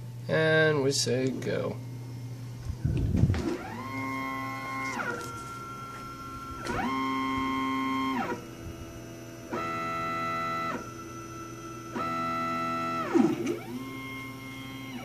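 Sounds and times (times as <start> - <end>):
stepper motors whining: 2.6 - 15.0.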